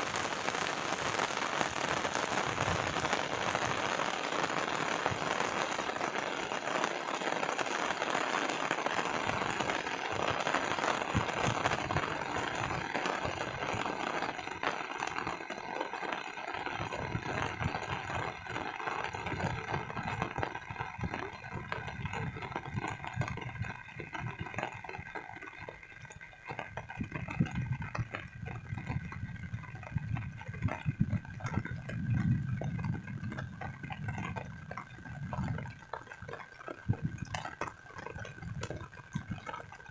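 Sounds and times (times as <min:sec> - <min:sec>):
rain hissing: 0:00.0 - 0:35.7.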